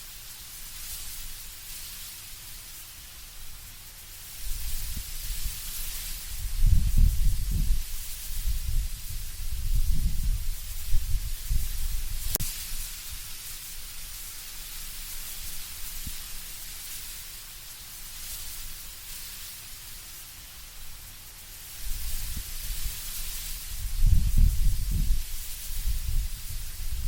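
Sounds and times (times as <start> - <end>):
wind through trees: 0.0 - 27.0
leaves rustling: 0.4 - 27.0.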